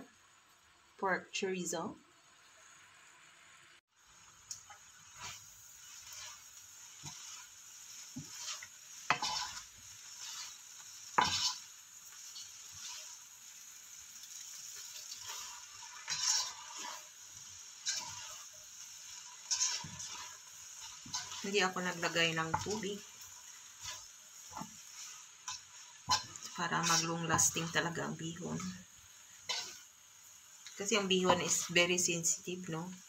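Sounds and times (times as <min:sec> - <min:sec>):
noodles sizzling in a frying pan: 0:00.0 - 0:33.0
spatula scraping a pan: 0:04.7 - 0:30.0, 0:30.6 - 0:32.0.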